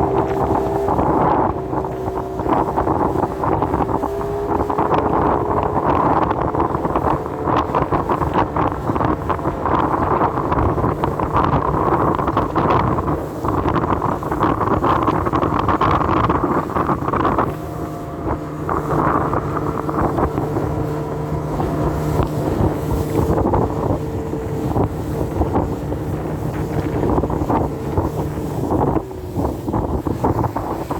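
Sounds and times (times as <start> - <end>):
hull knocking on waves: 0.0 - 30.9
outboard motor running: 0.0 - 30.9
wind buffeting microphone: 0.0 - 30.9.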